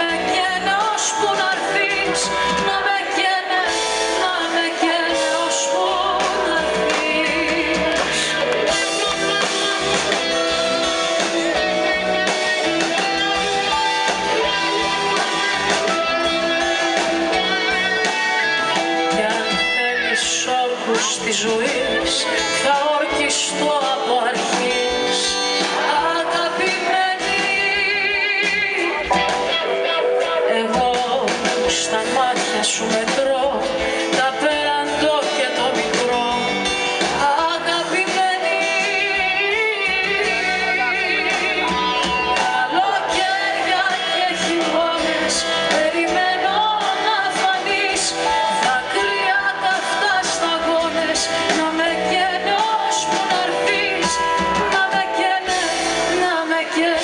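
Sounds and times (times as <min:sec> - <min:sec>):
drums: 0:00.0 - 0:57.0
keyboard: 0:00.0 - 0:57.0
woman singing: 0:00.0 - 0:57.0.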